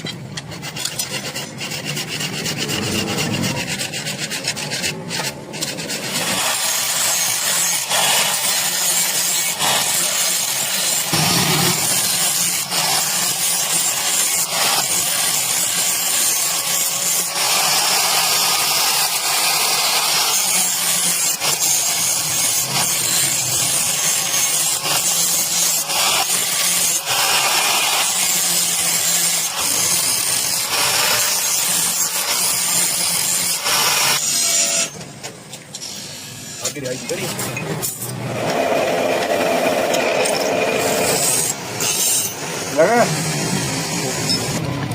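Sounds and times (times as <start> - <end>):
power tool grinding metal: 0.0 - 44.9.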